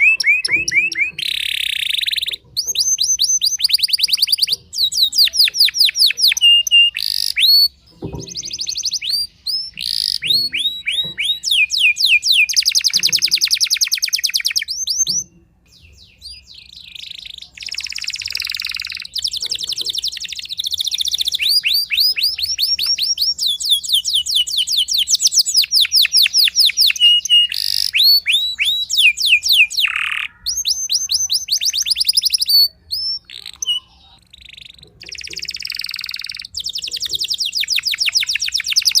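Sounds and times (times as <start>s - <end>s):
canary trilling song: 0.0s - 39.0s.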